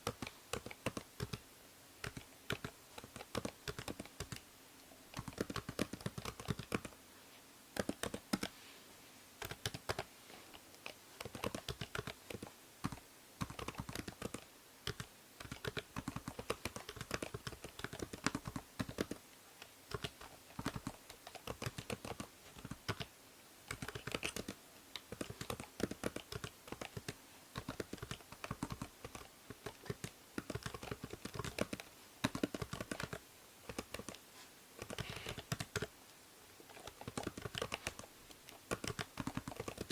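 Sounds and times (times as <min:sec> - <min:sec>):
typing on computer keyboard: 0:00.0 - 0:01.4, 0:02.0 - 0:04.5, 0:05.1 - 0:07.0, 0:07.8 - 0:08.5, 0:09.4 - 0:10.1, 0:10.7 - 0:19.2, 0:19.9 - 0:23.1, 0:23.7 - 0:34.2, 0:34.8 - 0:35.9, 0:36.7 - 0:39.9
faint microphone hiss: 0:00.0 - 0:39.9.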